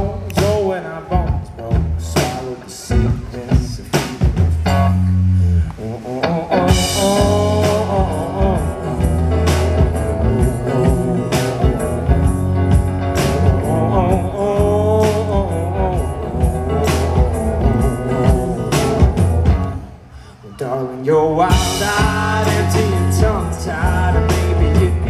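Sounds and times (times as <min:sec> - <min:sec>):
man singing: 0:00.0 - 0:04.6, 0:05.7 - 0:19.7, 0:20.4 - 0:25.0
live rock band playing: 0:00.0 - 0:05.4, 0:06.1 - 0:20.1, 0:21.4 - 0:25.0.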